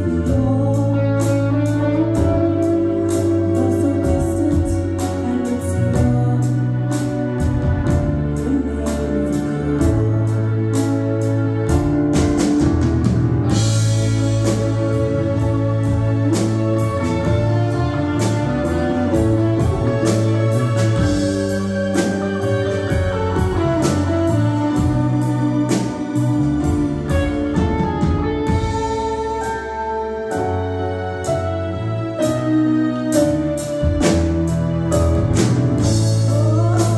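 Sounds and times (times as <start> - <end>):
drum kit steady beat: 0.0 - 30.7, 32.2 - 36.9
bass guitar: 0.0 - 36.9
electric guitar: 0.0 - 36.9
keyboards: 0.0 - 36.9.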